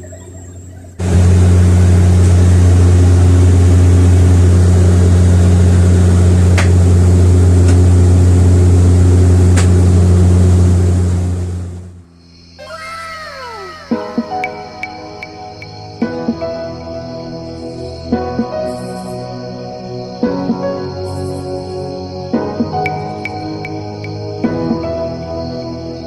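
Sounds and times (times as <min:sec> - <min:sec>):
airliner engines droning in cabin: 0:00.0 - 0:26.0.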